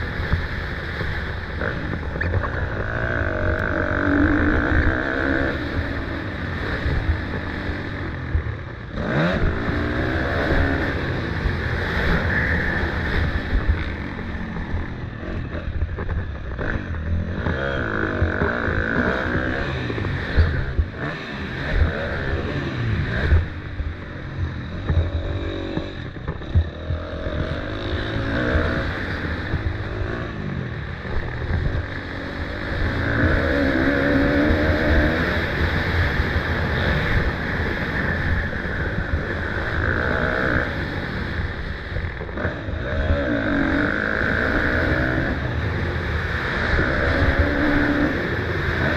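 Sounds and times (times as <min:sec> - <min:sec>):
motorcycle engines racing: 0:00.0 - 0:48.9.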